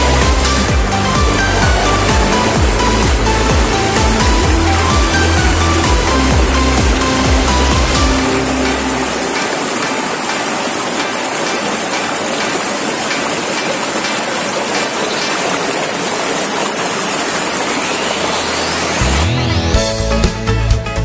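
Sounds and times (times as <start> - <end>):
stream water rushing over boulders: 0.0 - 19.7.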